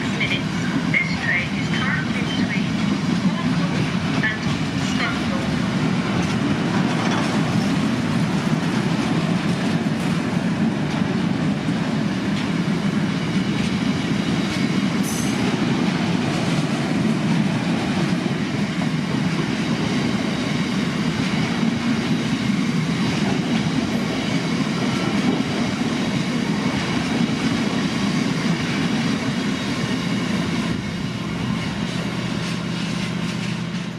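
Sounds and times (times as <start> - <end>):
train wheels rumbling and clattering: 0.0 - 33.9.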